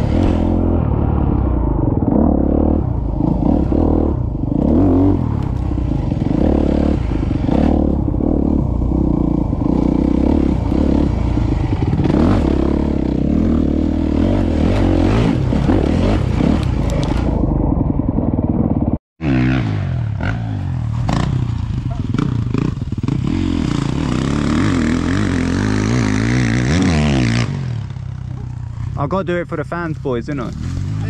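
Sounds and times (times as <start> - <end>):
motocross bike engine at full throttle: 0.0 - 31.0
motocross bike revving: 0.0 - 31.0.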